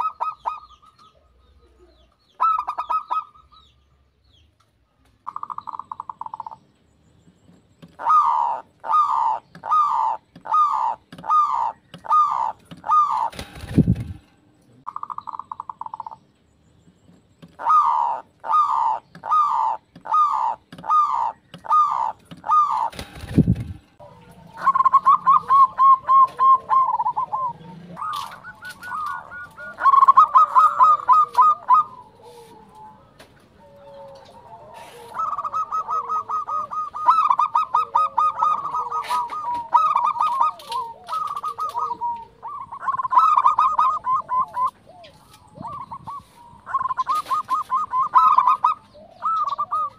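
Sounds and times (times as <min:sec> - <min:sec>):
dove cooing: 0:00.0 - 0:03.6, 0:05.2 - 0:06.6, 0:07.8 - 0:16.2, 0:17.4 - 0:49.9.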